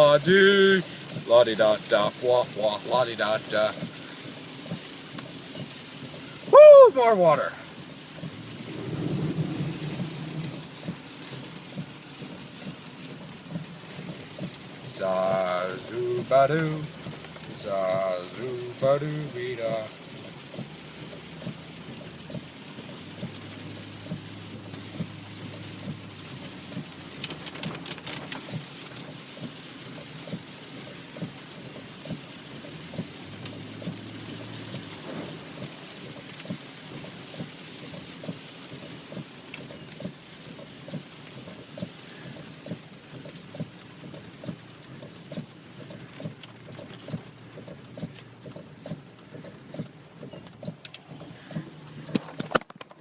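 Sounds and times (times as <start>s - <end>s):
low engine hum: 0.0s - 52.4s
rain on car roof: 0.0s - 53.0s.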